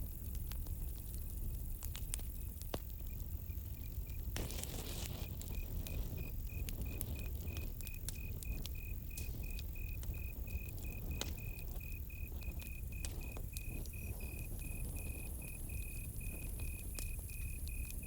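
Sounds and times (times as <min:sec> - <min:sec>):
campfire crackling and popping: 0:00.0 - 0:18.0
cricket chirping: 0:02.4 - 0:18.0.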